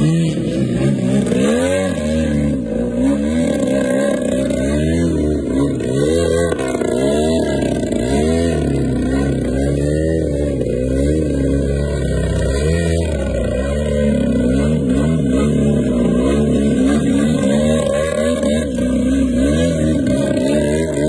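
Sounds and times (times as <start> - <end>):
model plane engine and propeller: 0.0 - 21.0.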